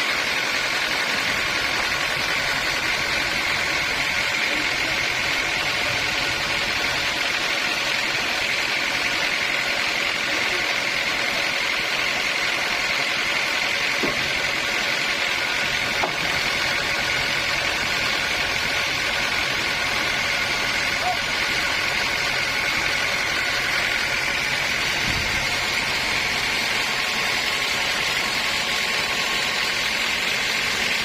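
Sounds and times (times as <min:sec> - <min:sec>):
high mechanical whine: 0:00.0 - 0:31.0
sawmill machinery drone: 0:00.0 - 0:31.0.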